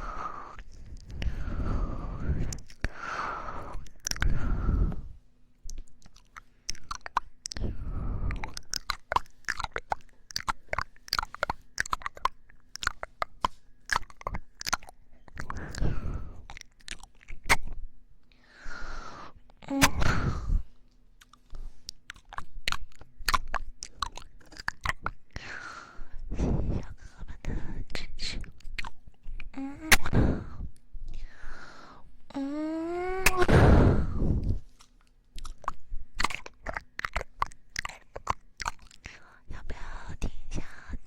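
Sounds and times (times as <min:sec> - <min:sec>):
breathy mouth sounds: 0:00.0 - 0:41.0.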